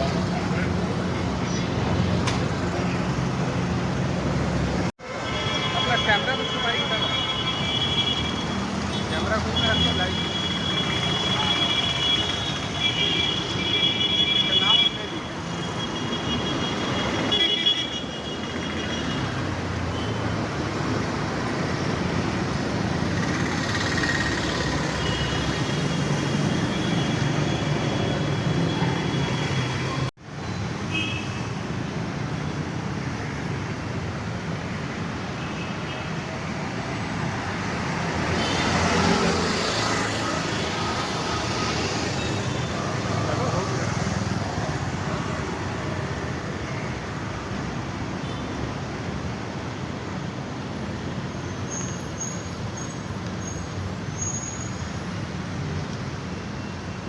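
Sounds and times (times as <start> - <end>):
traffic rumble of engines and tyres: 0.0 - 57.0.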